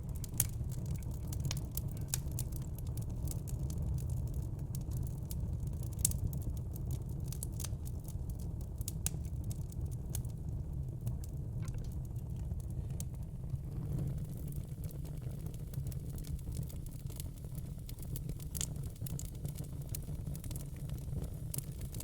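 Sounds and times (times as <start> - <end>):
fire low rumble: 0.0 - 22.0
wood fire crackling: 0.0 - 22.0.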